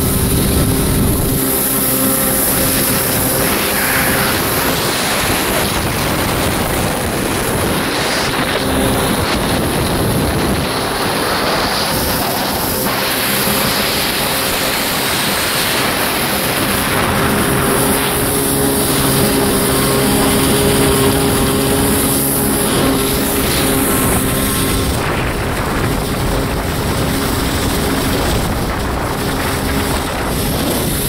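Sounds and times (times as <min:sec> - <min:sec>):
jet ski engine running: 0:00.0 - 0:31.0
water spray rushing: 0:00.0 - 0:31.0
wind on microphone: 0:00.0 - 0:31.0.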